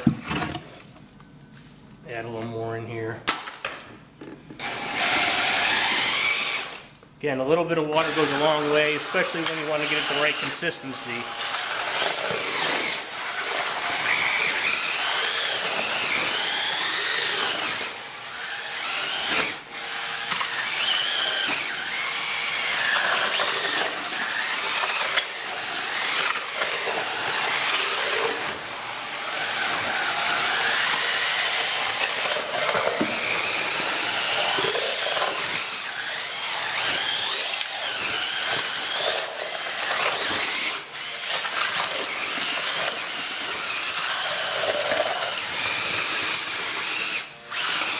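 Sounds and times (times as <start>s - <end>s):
drill motor whine mixing concrete: 4.2s - 47.9s.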